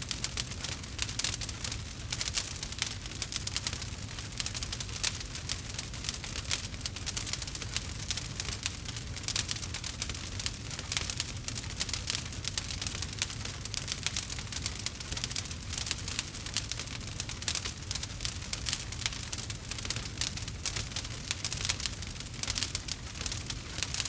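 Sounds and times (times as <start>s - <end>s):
campfire crackling and popping: 0.1s - 24.0s.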